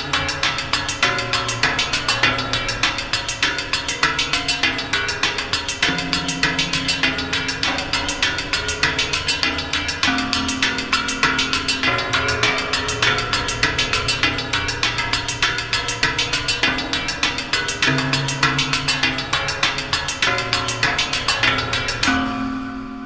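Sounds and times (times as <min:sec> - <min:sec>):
sticks striking metal plates: 0:00.0 - 0:22.3.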